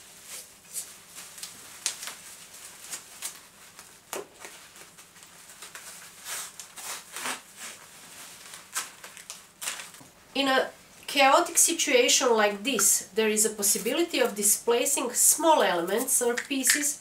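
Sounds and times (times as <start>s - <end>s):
plastic bags and tissue paper rustling: 0.0s - 10.2s, 10.8s - 17.0s.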